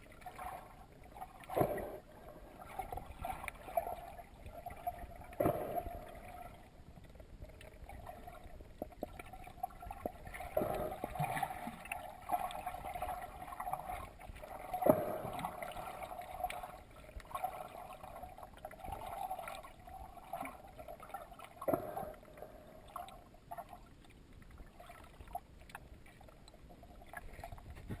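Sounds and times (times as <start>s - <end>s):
muffled underwater water movement: 0.0s - 28.0s.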